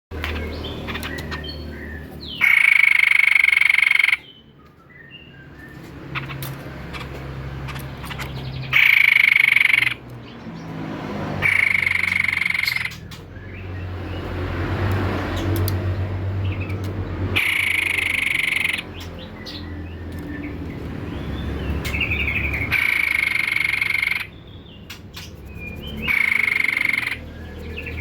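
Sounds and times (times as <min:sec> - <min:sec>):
bird singing rapid trills: 0:00.1 - 0:28.0.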